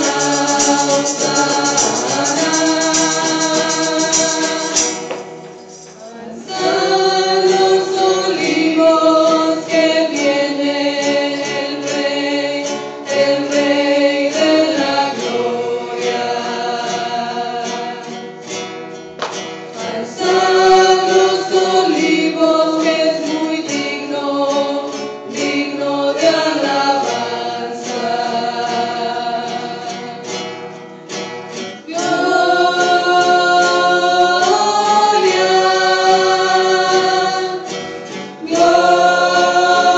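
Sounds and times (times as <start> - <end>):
mixed choir singing a hymn: 0.0 - 18.6, 19.7 - 30.5, 31.7 - 39.9
strummed acoustic guitars: 0.0 - 39.9.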